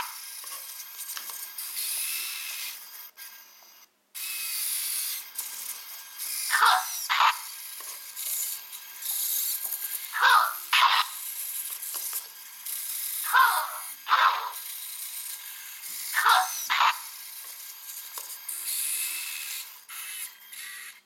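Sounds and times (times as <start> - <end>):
robot servo motors whirring: 0.0 - 21.0.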